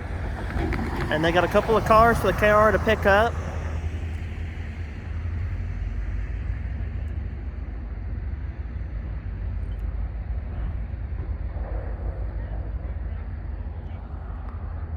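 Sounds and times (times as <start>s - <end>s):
diesel locomotive engine rumbling: 0.0s - 14.9s.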